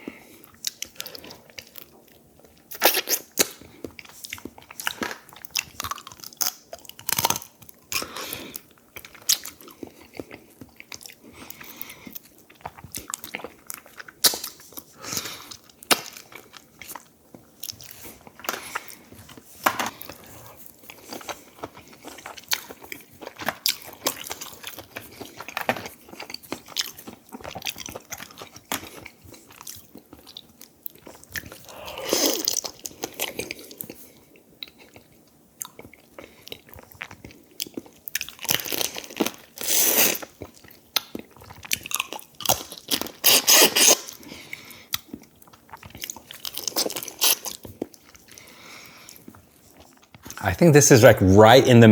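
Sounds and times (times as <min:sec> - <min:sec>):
chewing and biting food: 0:00.0 - 0:50.4.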